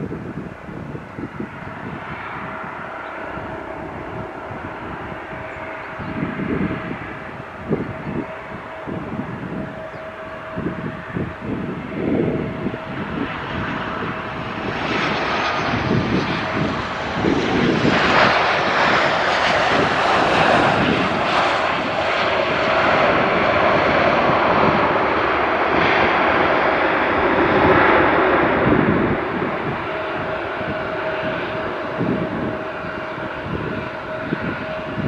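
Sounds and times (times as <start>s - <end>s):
airliner engines running loud: 0.0s - 35.0s.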